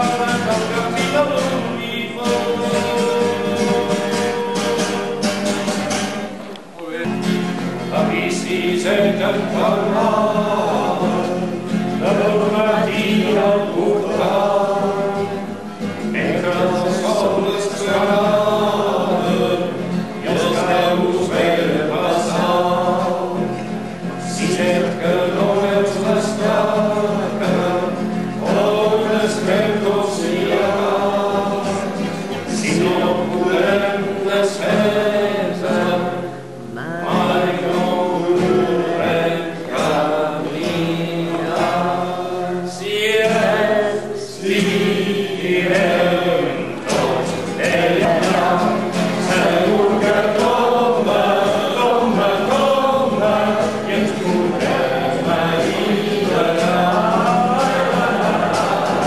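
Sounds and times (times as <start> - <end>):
man singing: 0.0 - 6.1, 6.8 - 59.0
acoustic guitar: 0.0 - 59.0.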